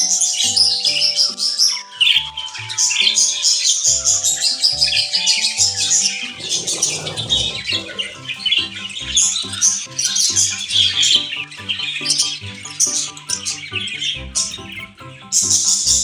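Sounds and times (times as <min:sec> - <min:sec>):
budgerigars chattering and chirping: 0:00.0 - 0:16.0.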